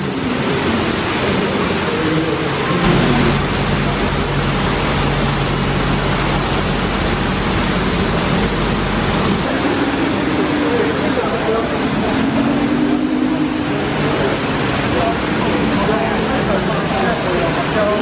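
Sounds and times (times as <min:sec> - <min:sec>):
car engine idling: 0:00.0 - 0:18.0
steady rushing hiss: 0:00.0 - 0:18.0.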